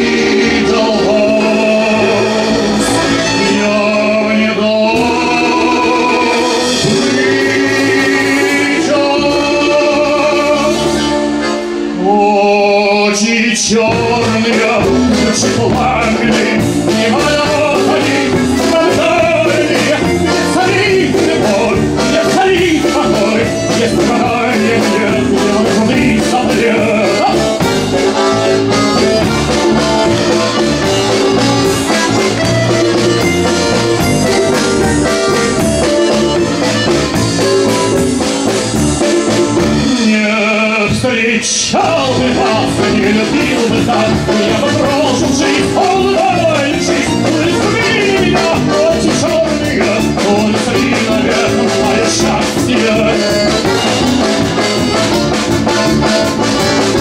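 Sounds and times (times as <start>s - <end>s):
upbeat band song: 0.0s - 57.0s.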